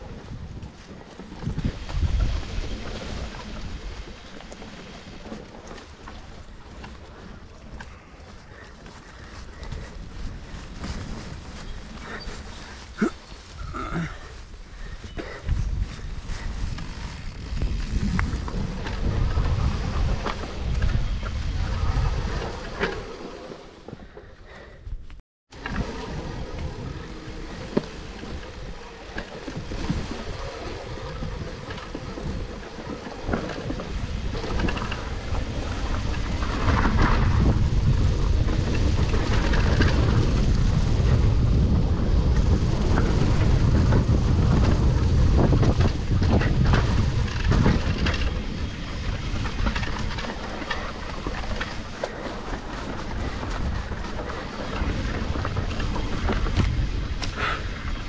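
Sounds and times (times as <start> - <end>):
tyres on dirt and leaves: 0.0 - 24.7, 25.5 - 58.0
bike rattling over bumps: 0.0 - 24.8, 25.5 - 58.0
wind buffeting microphone: 0.0 - 58.0.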